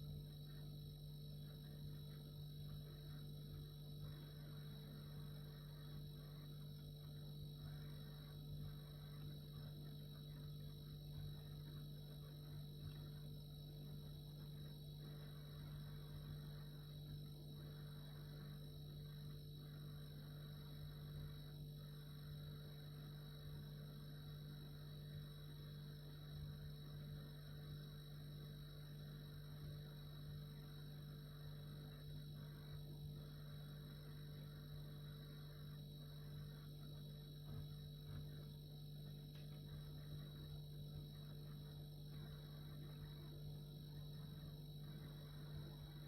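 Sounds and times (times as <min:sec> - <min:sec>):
refrigerator compressor humming: 0:00.0 - 0:46.0.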